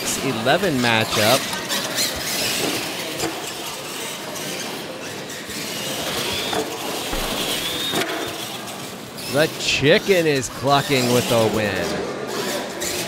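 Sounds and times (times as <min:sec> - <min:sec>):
rc truck motors whirring: 0:00.1 - 0:13.0.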